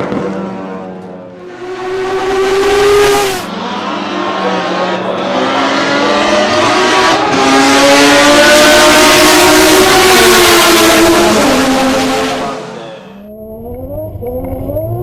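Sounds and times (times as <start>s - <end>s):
rotary engine accelerating: 1.4s - 15.0s.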